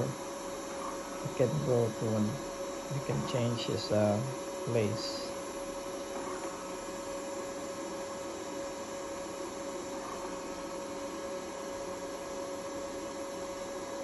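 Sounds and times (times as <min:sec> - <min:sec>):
robot vacuum cleaner humming: 0:00.0 - 0:14.0.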